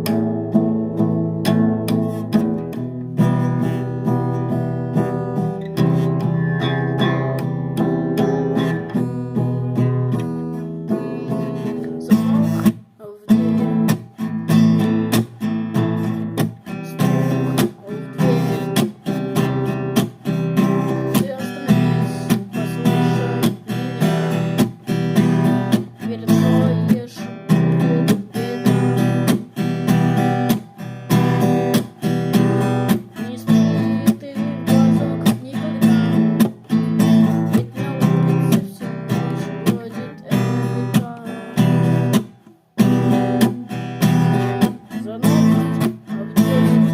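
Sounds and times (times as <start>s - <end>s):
guitar strummed: 0.0s - 46.9s.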